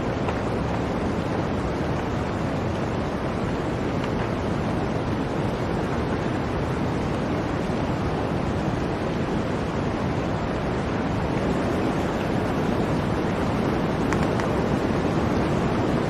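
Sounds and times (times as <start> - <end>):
blizzard wind rushing: 0.0 - 16.0.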